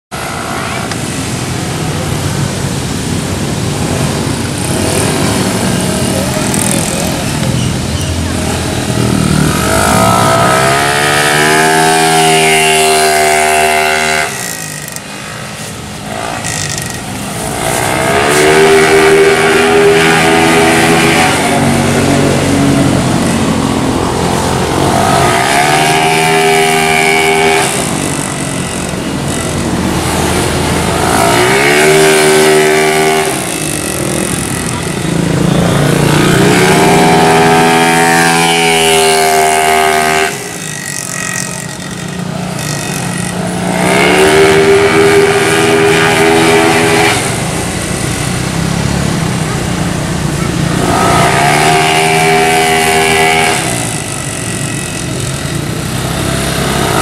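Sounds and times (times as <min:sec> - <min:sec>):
scooter engine revving: 0:00.1 - 0:57.0.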